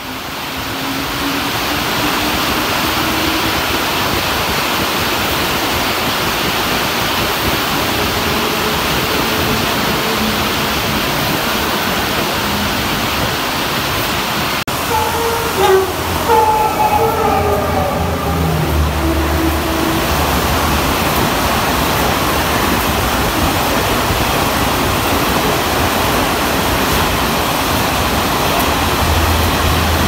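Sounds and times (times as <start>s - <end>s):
faint low train hum: 0.0s - 30.0s
heavy rain pouring: 0.0s - 30.0s.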